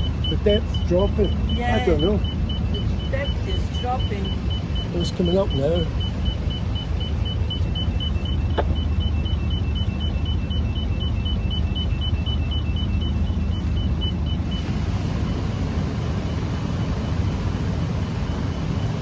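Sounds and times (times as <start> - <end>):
boat engine humming: 0.0 - 19.0
depth-sounder alarm beeping: 0.0 - 19.0.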